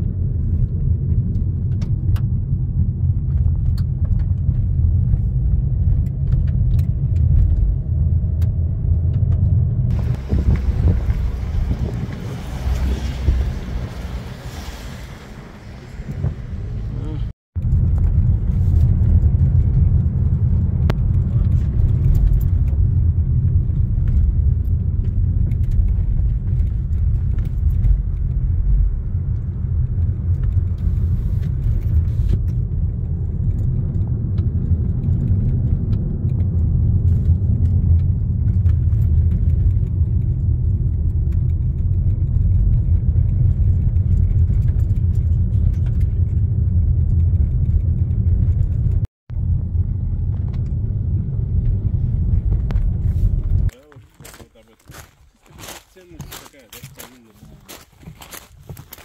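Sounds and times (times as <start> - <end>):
car rumbling over rough road: 0.0 - 59.0.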